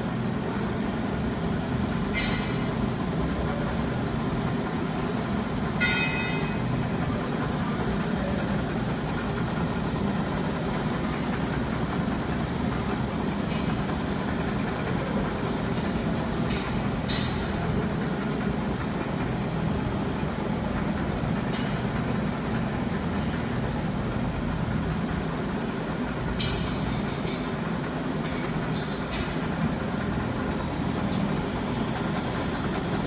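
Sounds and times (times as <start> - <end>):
winding machines humming: 0.0 - 33.0.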